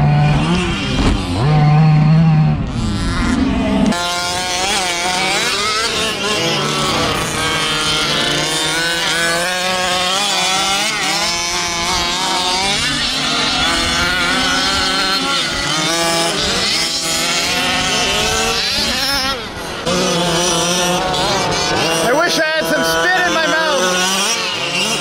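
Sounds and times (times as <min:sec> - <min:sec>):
small engines buzzing and revving: 0:00.0 - 0:25.0.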